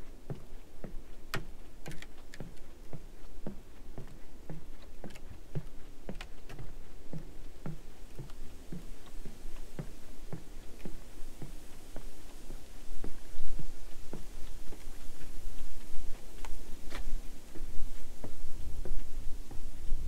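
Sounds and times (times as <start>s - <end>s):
footsteps on wooden boardwalk: 0.0s - 20.0s.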